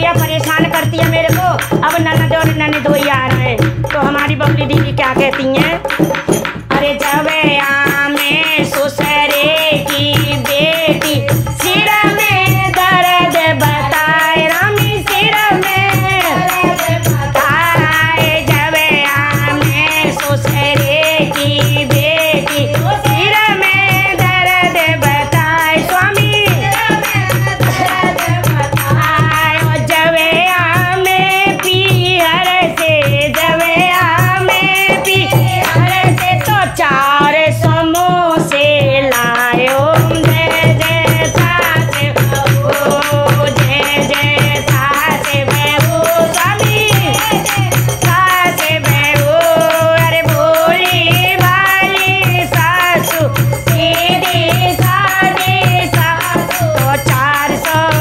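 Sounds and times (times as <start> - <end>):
hand drum beating: 0.0 - 58.0
women singing devotional song: 0.0 - 58.0.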